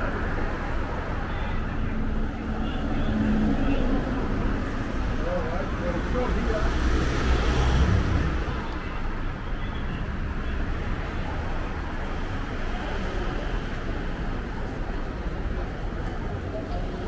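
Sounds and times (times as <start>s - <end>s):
faint voices: 0.0s - 17.0s
road traffic rumble: 0.0s - 17.0s.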